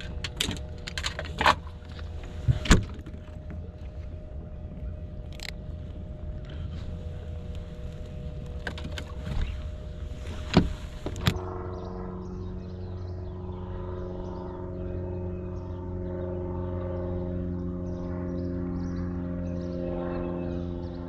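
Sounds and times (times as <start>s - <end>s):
electric trolling motor humming: 0.0s - 21.0s.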